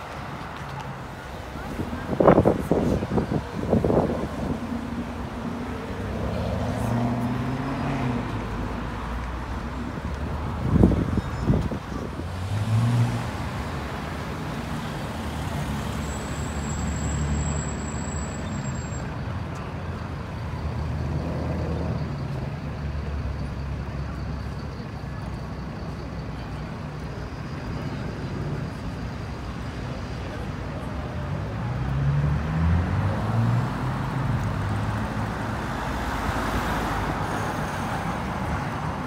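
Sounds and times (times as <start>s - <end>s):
city traffic hum: 0.0s - 39.0s.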